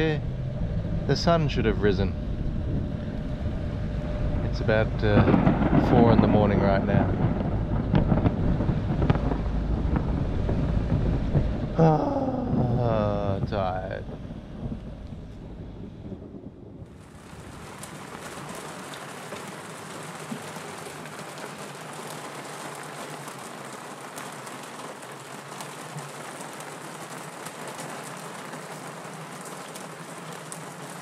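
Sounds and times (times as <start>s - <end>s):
rain hitting a window: 4.0s - 15.6s, 16.8s - 31.0s.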